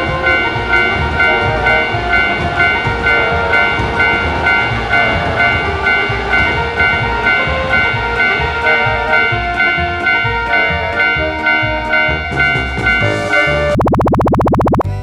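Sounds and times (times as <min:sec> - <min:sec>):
railroad crossing warning bell: 0:00.0 - 0:13.8
train rumbling past: 0:00.0 - 0:13.8.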